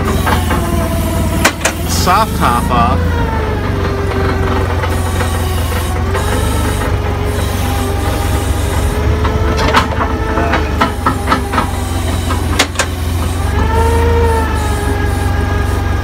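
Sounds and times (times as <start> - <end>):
forklift engine running: 0.0 - 16.0.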